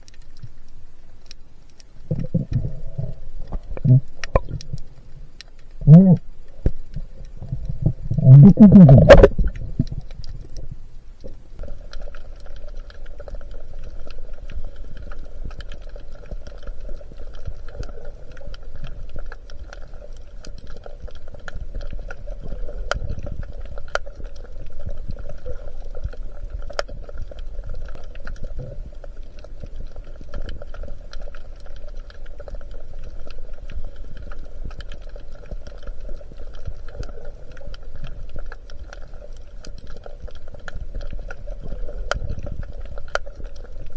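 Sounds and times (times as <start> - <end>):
low rumble of moving water: 0.0 - 43.9
underwater clicks and crackles: 0.0 - 43.9.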